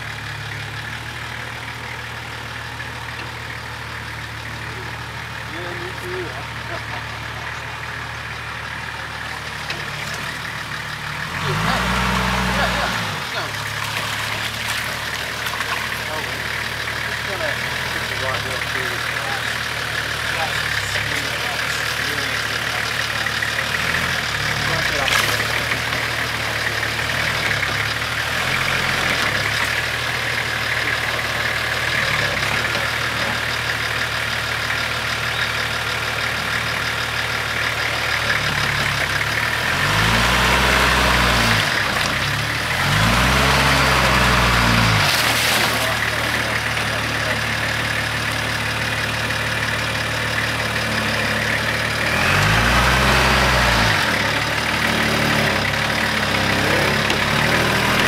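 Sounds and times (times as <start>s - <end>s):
four-wheel drive engine idling: 0.0s - 58.0s.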